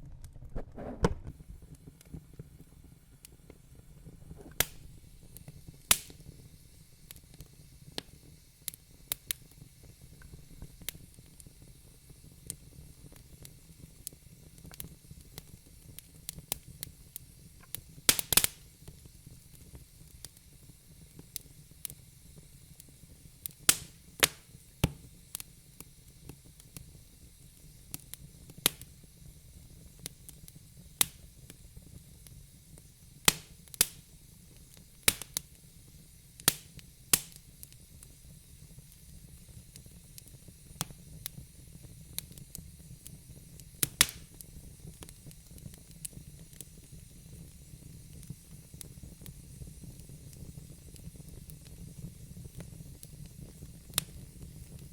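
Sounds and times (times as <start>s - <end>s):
fire crackling and popping: 0.0s - 54.9s
low rumble of flames: 0.0s - 54.9s
faint hiss: 0.5s - 54.9s.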